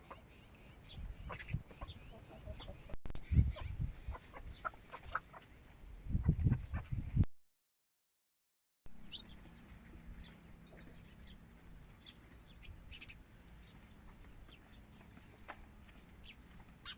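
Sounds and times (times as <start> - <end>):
small birds chirping: 0.0 - 7.2, 9.0 - 16.9.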